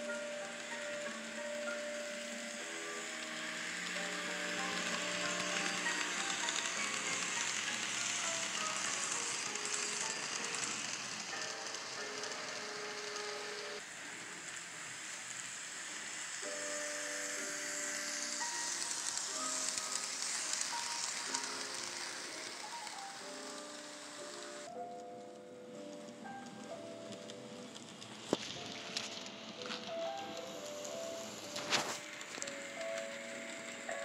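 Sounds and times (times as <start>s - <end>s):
model trains whirring: 0.0s - 34.0s
soft background music: 0.0s - 34.0s.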